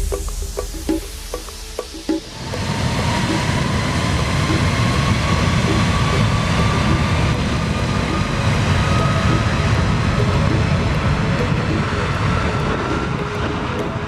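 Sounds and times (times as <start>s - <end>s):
jet engines rumbling: 0.0s - 14.0s
rising engine whine: 0.0s - 14.0s.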